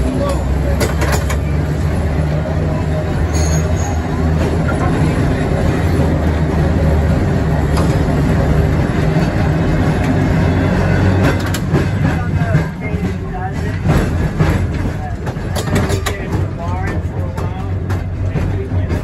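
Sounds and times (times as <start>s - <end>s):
electric trolley car hum: 0.0s - 19.0s
wheels rumbling on rail: 0.0s - 19.0s.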